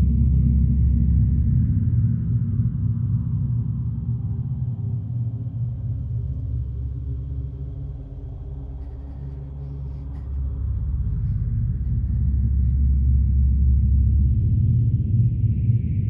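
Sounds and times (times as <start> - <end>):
dark horror film score drone: 0.0 - 16.0.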